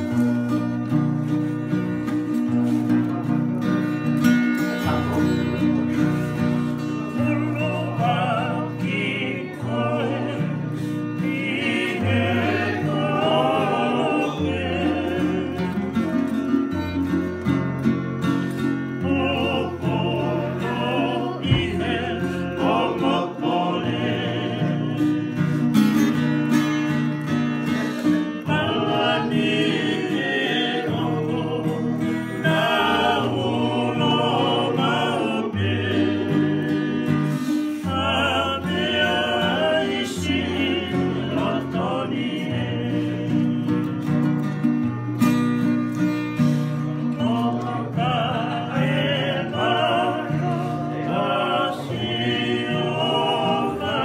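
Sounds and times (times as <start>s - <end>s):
acoustic guitars strumming: 0.0s - 54.0s
ukulele strumming: 0.0s - 54.0s
men singing: 4.7s - 16.6s, 18.4s - 26.2s, 27.6s - 44.5s, 46.6s - 54.0s.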